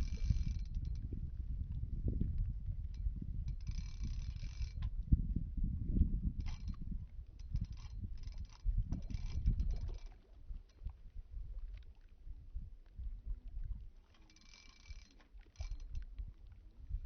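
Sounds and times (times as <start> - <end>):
wind buffeting microphone: 0.0 - 14.0, 15.6 - 17.0.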